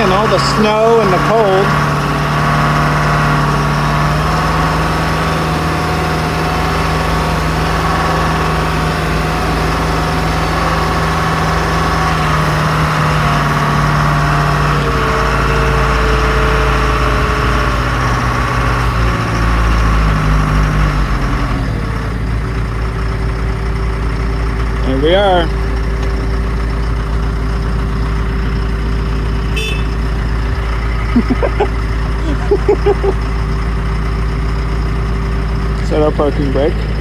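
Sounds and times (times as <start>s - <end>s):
backhoe diesel engine running: 0.0s - 37.0s.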